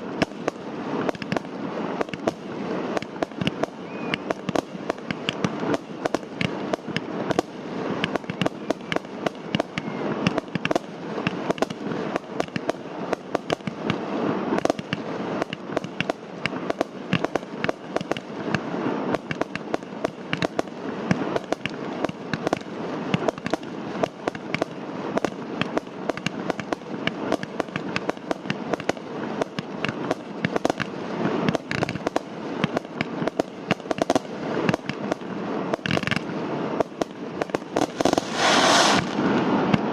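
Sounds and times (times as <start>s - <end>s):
fireworks cracks and pops: 0.0s - 39.9s.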